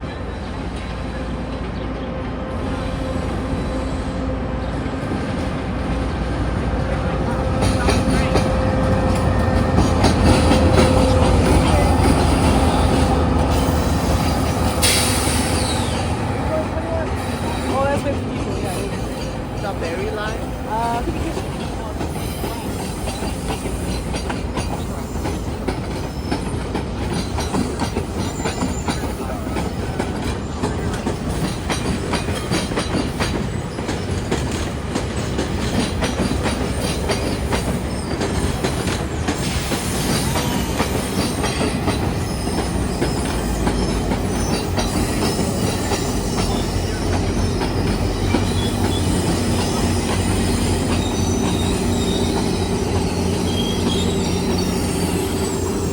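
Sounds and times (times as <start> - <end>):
diesel locomotive drone: 0.0 - 55.9
train wheels clicking over rail joints: 5.0 - 55.9.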